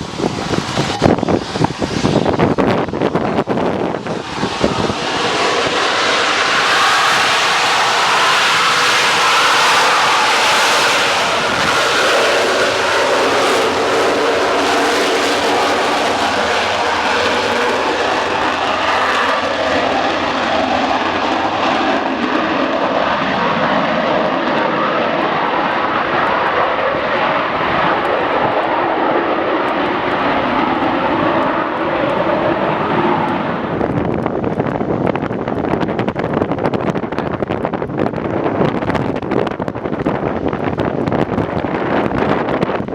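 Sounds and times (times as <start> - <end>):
jet passing by: 0.0 - 35.1
wind buffeting microphone: 0.0 - 42.9.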